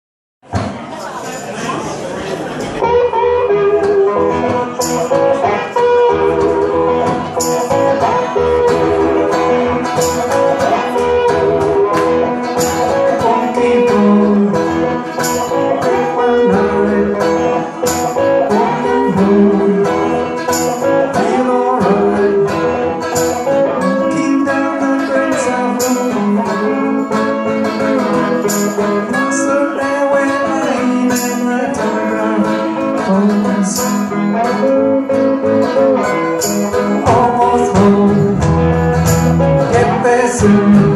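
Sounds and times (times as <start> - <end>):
live band playing amplified music: 0.4 - 40.9.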